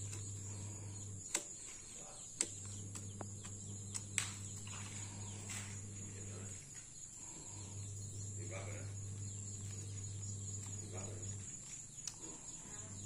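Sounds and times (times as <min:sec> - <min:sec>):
high insect buzz: 0:00.0 - 0:13.0
low steady hum: 0:00.0 - 0:13.0.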